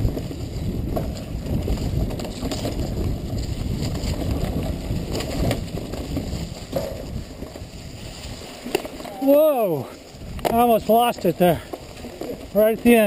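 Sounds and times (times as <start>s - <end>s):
bike rattling with sharp knocks: 0.0s - 13.0s
tyres rumbling over dirt and rocks: 0.0s - 13.0s
wind buffeting microphone: 0.0s - 13.0s.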